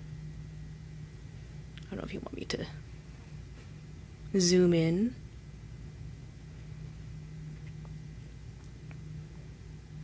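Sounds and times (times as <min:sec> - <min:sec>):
faint background hiss: 0:00.0 - 0:10.0
low steady hum: 0:00.0 - 0:10.0.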